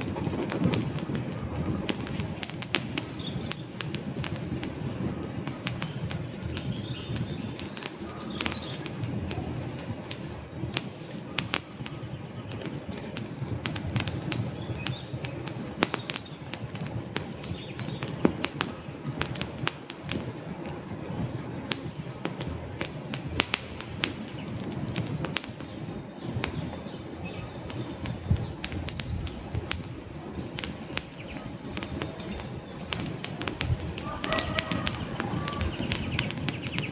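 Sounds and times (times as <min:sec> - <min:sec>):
campfire crackling: 0:00.0 - 0:36.9
low rumble of flames: 0:00.0 - 0:36.9.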